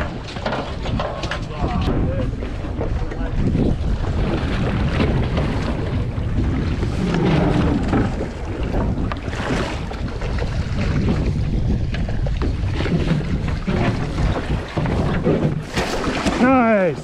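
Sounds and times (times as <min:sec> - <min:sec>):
boat noise: 0:00.0 - 0:17.0
water wash: 0:00.0 - 0:17.0
wind buffeting microphone: 0:00.0 - 0:17.0.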